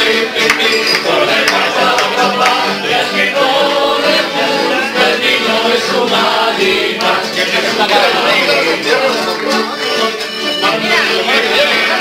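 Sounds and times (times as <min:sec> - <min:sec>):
men singing in chorus: 0:00.0 - 0:09.0, 0:10.6 - 0:12.0
strummed guitars: 0:00.0 - 0:12.0.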